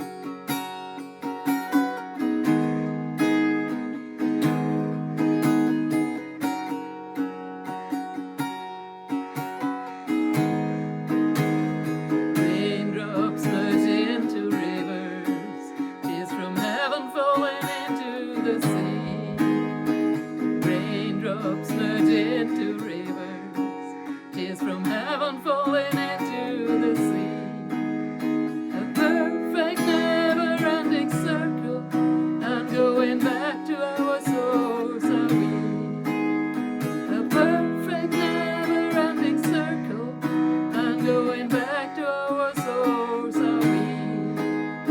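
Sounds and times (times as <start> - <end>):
acoustic guitar strumming chords: 0.0 - 44.9.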